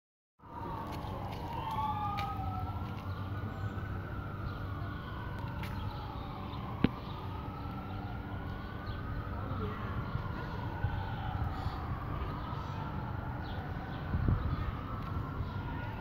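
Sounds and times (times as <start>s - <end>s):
siren wailing: 0.4s - 16.0s.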